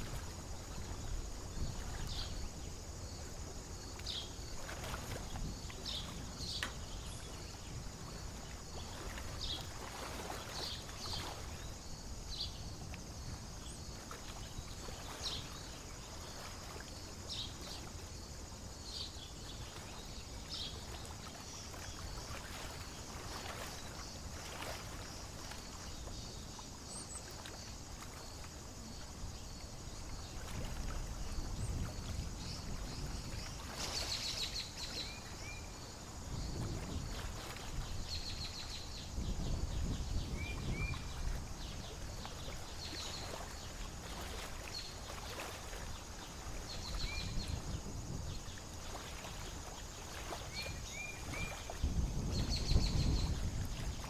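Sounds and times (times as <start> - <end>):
gently moving water: 0.0 - 54.0
low rumble of lake ambience: 0.0 - 54.0.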